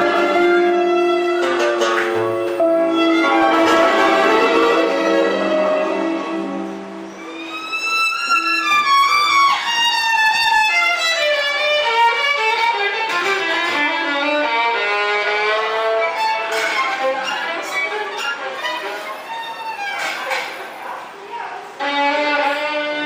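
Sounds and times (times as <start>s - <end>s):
violin playing fast solo: 0.0s - 20.2s.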